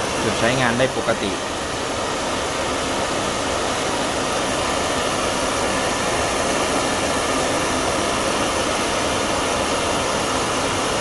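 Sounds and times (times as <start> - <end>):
pressure lantern hissing: 0.0 - 11.0.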